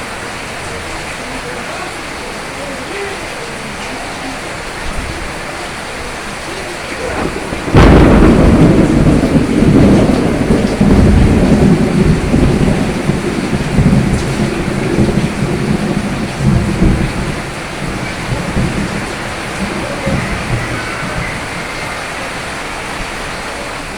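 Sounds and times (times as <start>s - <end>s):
steady rain: 0.0s - 23.9s
thunderclap and rumble: 4.7s - 23.9s.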